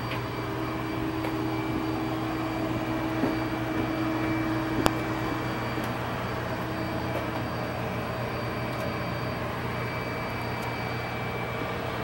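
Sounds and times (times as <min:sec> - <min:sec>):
faint high whine: 0:00.0 - 0:12.0
machinery hum: 0:00.0 - 0:12.0.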